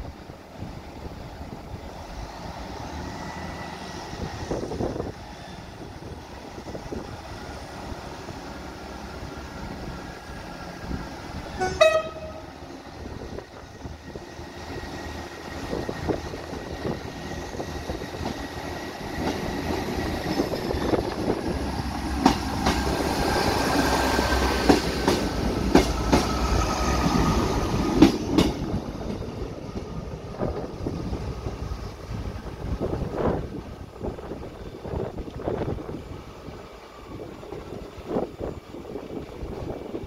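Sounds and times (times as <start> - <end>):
train diesel engines under load: 0.0 - 40.0.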